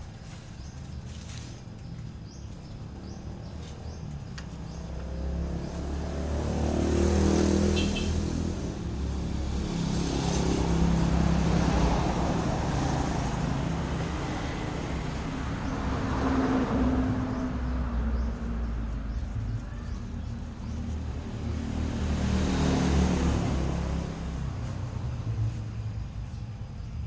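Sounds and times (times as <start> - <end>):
passing vehicle engines: 0.0 - 27.0.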